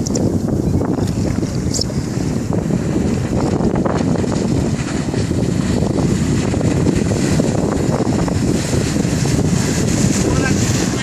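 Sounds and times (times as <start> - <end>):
jet ski engine: 0.0 - 11.0
water noise: 0.0 - 11.0
wind rushing on microphone: 0.0 - 11.0.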